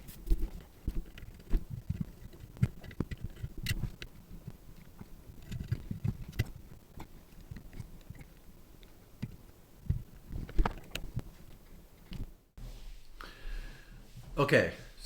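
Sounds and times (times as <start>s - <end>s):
hands handling microphone parts: 0.0s - 12.4s.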